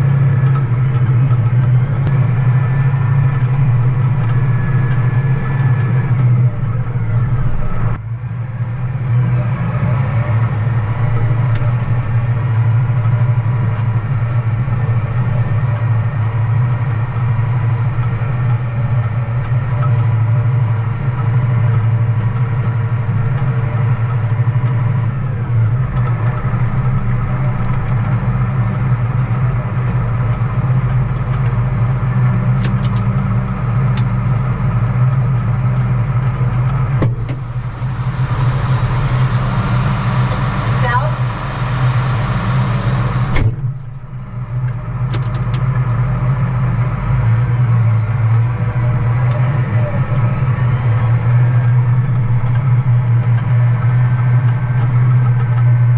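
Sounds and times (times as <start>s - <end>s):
truck engine droning: 0.0s - 55.9s.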